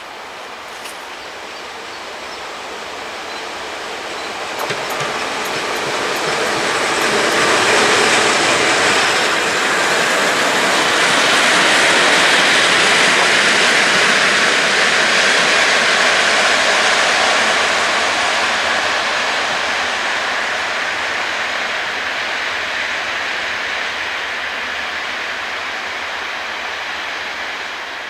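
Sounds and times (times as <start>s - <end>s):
locomotive wheels rushing on rails: 0.0s - 28.0s.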